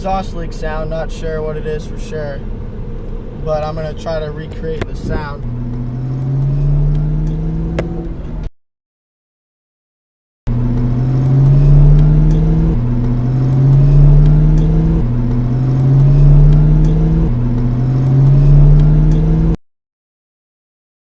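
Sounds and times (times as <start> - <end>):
car engine accelerating: 0.0 - 8.5, 10.5 - 19.6.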